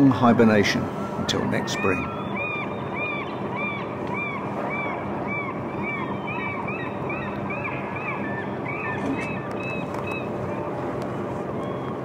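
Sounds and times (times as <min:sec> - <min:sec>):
boat engine humming: 0:00.0 - 0:12.0
gulls calling: 0:00.0 - 0:12.0.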